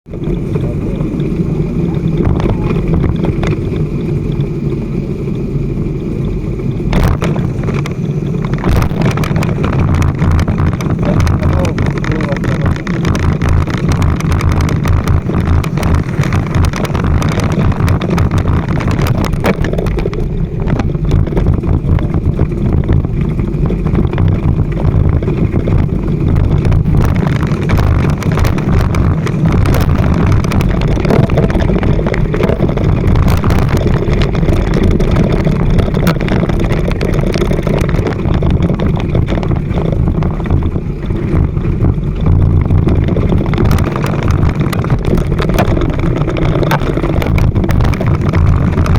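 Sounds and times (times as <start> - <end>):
motorcycle engine running: 0.0 - 48.9
wind rushing over microphone: 0.0 - 48.9.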